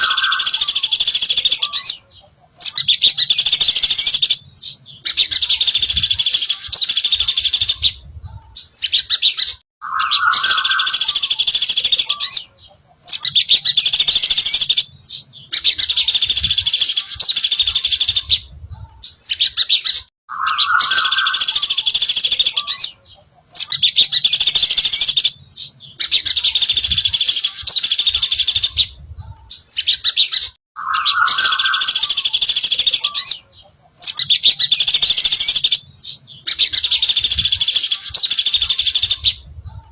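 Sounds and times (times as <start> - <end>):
songbird chattering: 0.0 - 39.9.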